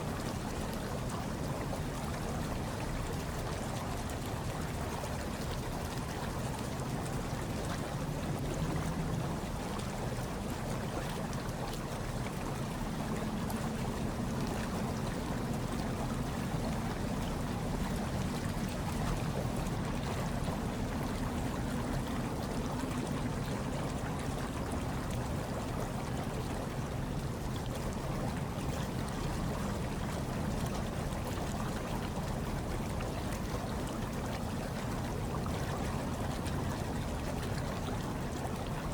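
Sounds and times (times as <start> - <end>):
hot tub water churning and bubbling: 0.0 - 38.9.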